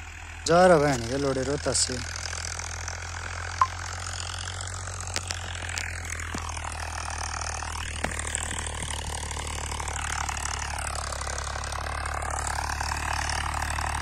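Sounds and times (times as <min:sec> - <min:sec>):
distant tractor engine droning: 0:00.0 - 0:14.0.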